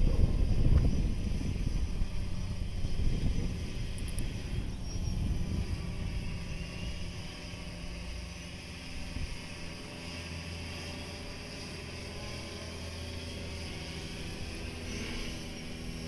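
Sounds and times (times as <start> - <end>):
drone propellers whirring: 0.0 - 16.0.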